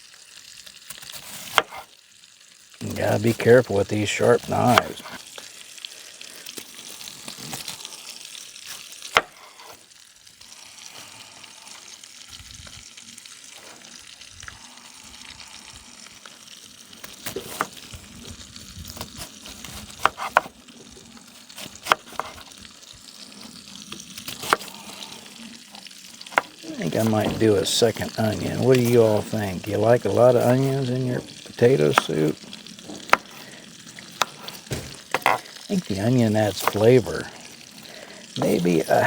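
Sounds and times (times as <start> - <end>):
bacon sizzling in a pan: 0.0 - 39.0.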